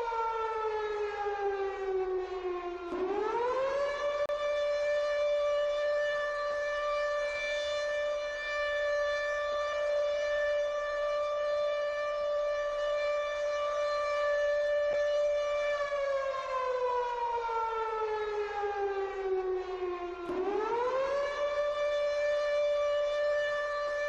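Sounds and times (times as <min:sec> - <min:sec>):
civil defense siren wailing: 0:00.0 - 0:24.0.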